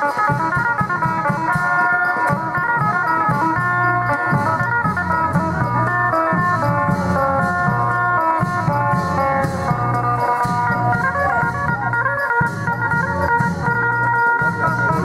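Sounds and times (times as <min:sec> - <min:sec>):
plucked-string music over loudspeakers: 0:00.0 - 0:15.0.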